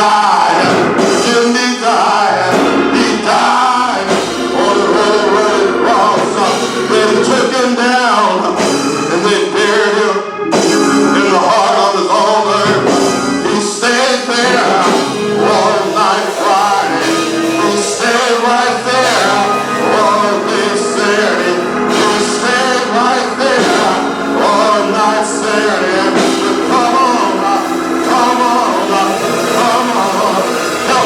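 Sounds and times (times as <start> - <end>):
instrumental accompaniment: 0.0 - 31.0
man singing gospel: 0.0 - 31.0.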